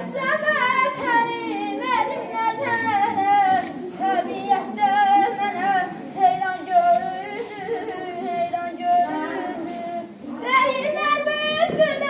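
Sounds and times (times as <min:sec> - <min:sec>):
child singing: 0:00.0 - 0:12.0.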